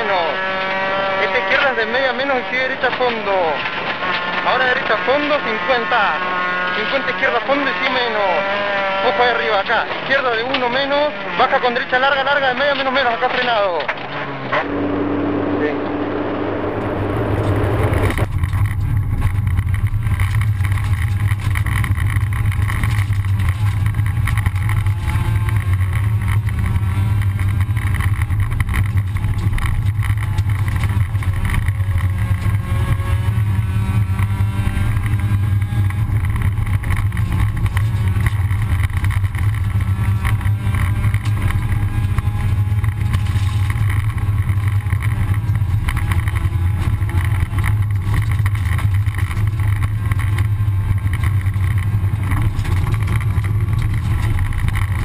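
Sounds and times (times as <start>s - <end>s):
gravel rattling against car body: 0.0s - 14.9s, 16.6s - 55.0s
car engine deep drone: 0.0s - 55.0s.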